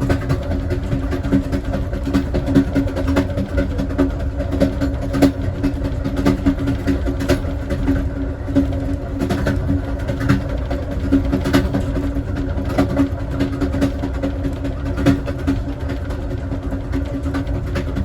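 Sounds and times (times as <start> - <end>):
train rumbling on track: 0.0 - 18.0
wheels clacking on rails: 0.0 - 18.0.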